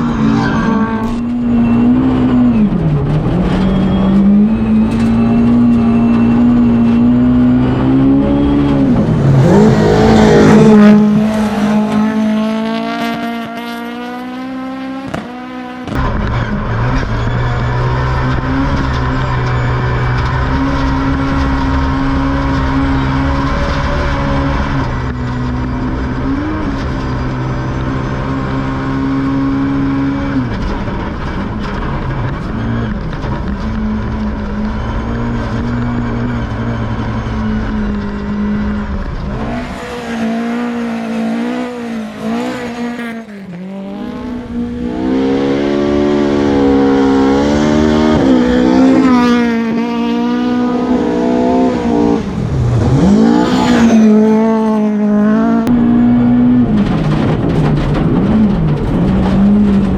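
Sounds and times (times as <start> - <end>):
car shifting through gears: 0.0 - 59.9
rally car engine revving: 0.0 - 59.9.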